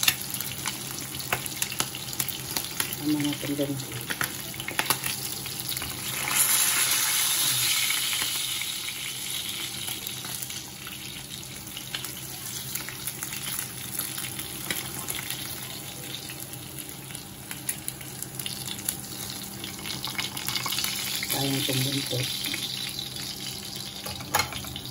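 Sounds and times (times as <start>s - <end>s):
fish sizzling in a pan: 0.0s - 24.9s.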